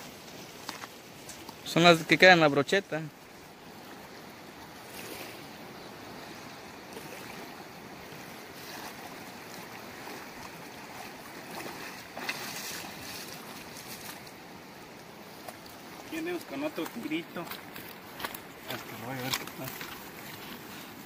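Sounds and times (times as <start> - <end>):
river water flowing: 0.0 - 21.0
feet wading through water: 3.1 - 21.0.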